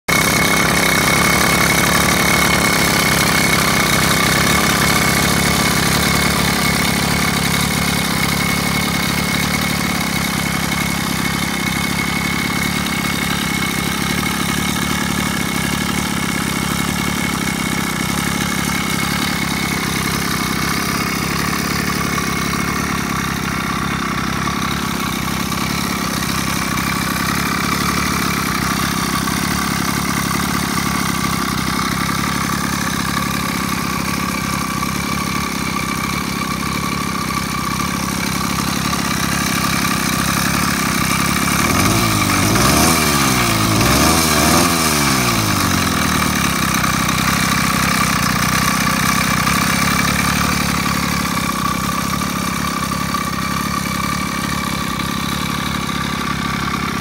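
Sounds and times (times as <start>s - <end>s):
two-stroke engine idling: 0.0s - 57.0s.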